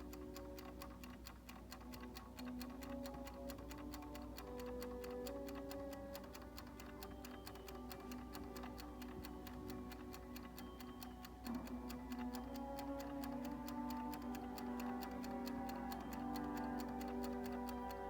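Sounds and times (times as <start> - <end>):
background music with held notes: 0.0 - 18.0
kitchen timer ticking: 0.0 - 18.0.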